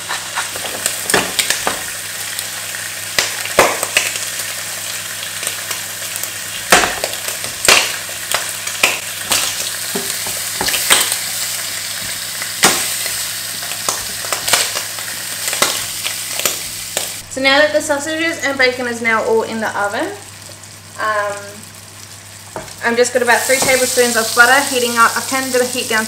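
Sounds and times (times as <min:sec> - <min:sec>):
food sizzling in pans: 0:00.0 - 0:17.3, 0:19.6 - 0:26.0.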